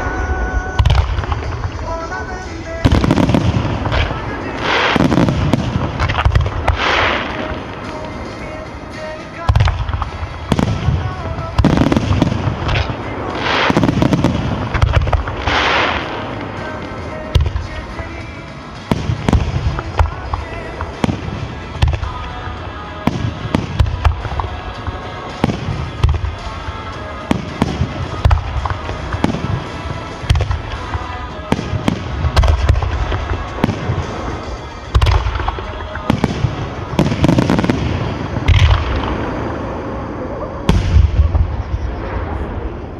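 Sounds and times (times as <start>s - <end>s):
firework shells booming: 0.0s - 22.4s, 23.0s - 39.8s
fireworks crackling: 0.0s - 42.9s.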